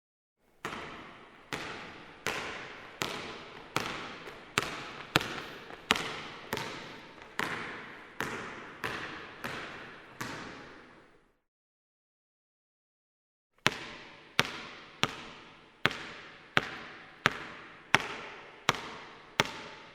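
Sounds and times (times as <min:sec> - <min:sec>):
basketball bouncing with echo: 0:00.5 - 0:11.3, 0:13.6 - 0:19.9.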